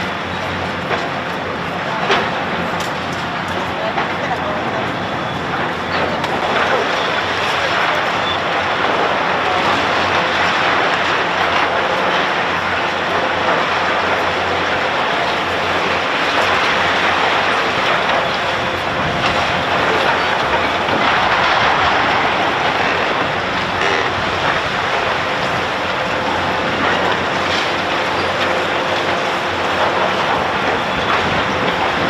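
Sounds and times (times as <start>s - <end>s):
heavy machinery running: 0.0s - 32.0s.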